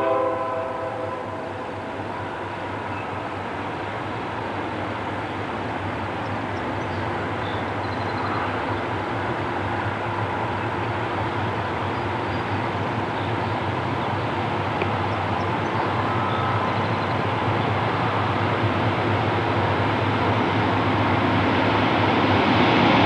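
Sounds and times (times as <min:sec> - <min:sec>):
diesel train engine drone: 0:00.0 - 0:23.0
rail noise: 0:00.0 - 0:23.0.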